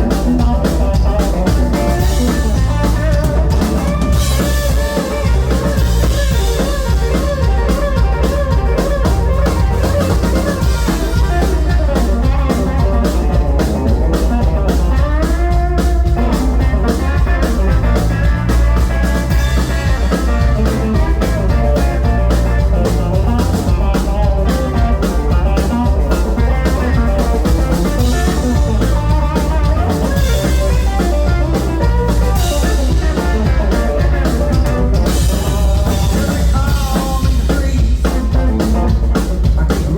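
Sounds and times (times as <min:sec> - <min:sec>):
drum kit: 0:00.0 - 0:39.9
electric guitar: 0:00.0 - 0:39.9
live band playing instrumental: 0:00.0 - 0:39.9.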